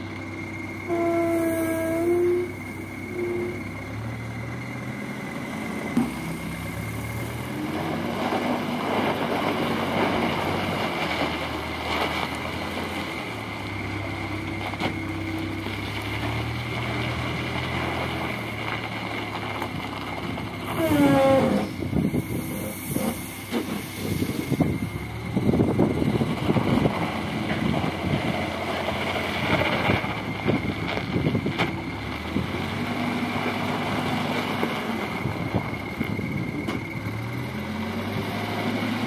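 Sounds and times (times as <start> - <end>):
backhoe diesel engine running: 0.0 - 39.0.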